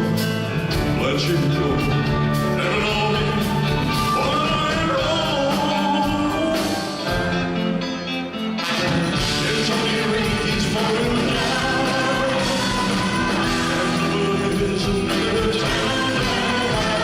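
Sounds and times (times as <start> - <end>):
live band playing rock ballad: 0.0 - 17.0.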